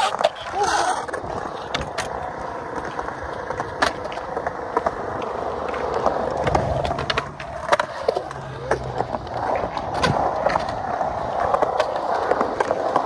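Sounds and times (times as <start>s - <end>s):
skateboard clicks: 0.0s - 13.0s
skateboard wheels rolling on concrete: 0.0s - 13.0s.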